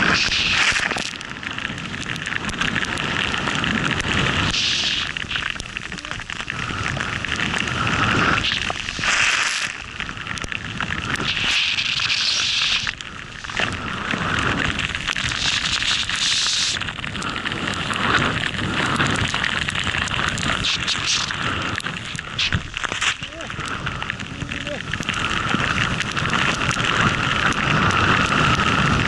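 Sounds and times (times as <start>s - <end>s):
snowboard cutting through snow: 0.0s - 29.0s
wind on microphone: 0.0s - 29.0s.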